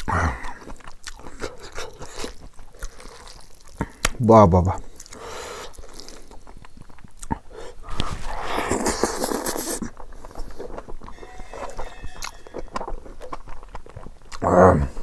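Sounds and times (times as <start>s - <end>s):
wet chewing and mouth smacks: 0.0s - 4.2s, 4.8s - 15.0s.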